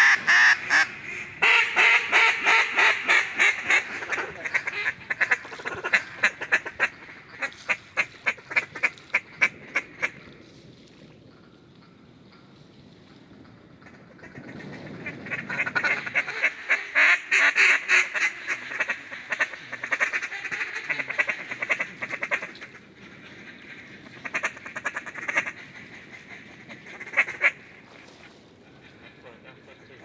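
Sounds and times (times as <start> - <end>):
ducks quacking: 0.0 - 10.2, 13.9 - 22.8, 23.4 - 28.0, 28.6 - 30.0.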